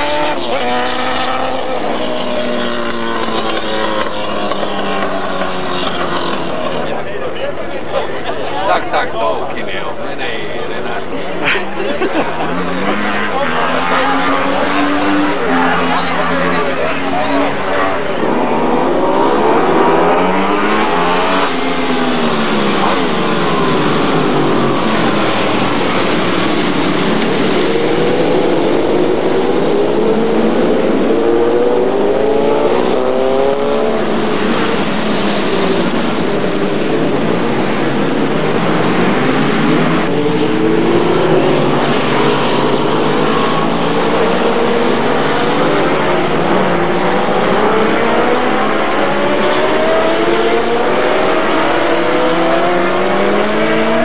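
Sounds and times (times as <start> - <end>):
racing motorcycles revving past: 0.0 - 6.9, 12.2 - 54.0.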